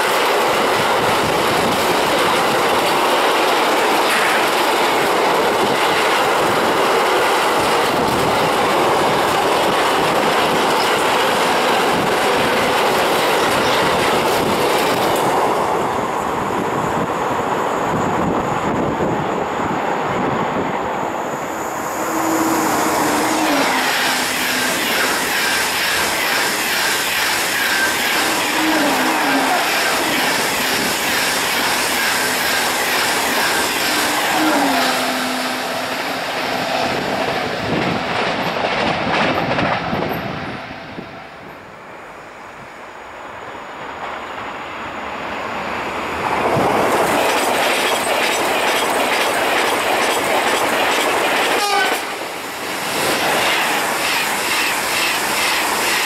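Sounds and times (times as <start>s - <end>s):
high-speed train passing: 0.0s - 56.0s.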